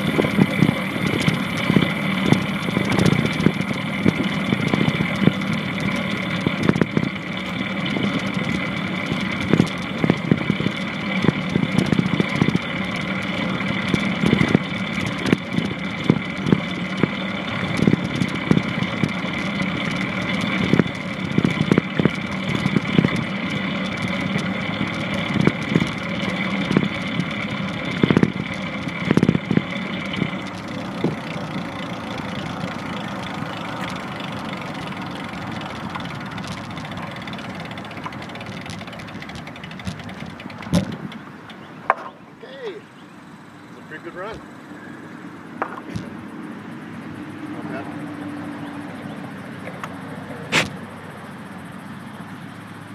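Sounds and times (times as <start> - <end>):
high steady whine: 0.0 - 52.9
longboard wheels rolling on pavement: 0.0 - 52.9.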